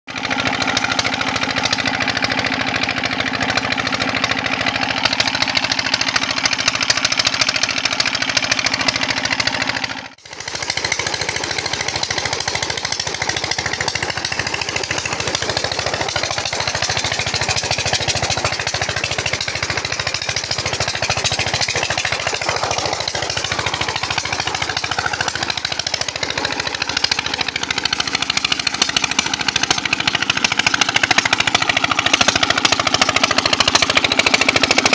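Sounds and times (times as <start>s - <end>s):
diesel engine knocking: 0.1s - 34.9s.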